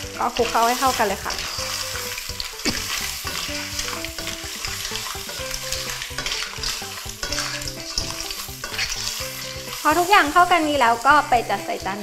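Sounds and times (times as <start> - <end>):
clams sizzling in a wok: 0.0 - 12.0
spatula scraping and knocking wok: 0.0 - 12.0.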